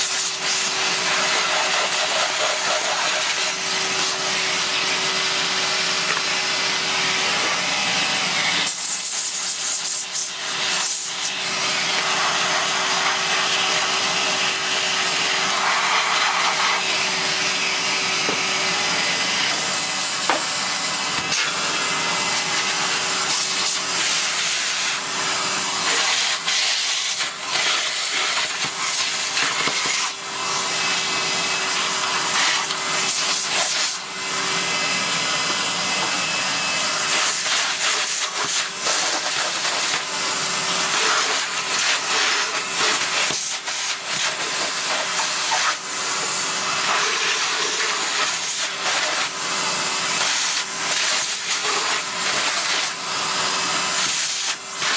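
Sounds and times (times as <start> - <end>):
vacuum cleaner suction hiss: 0.0 - 54.9.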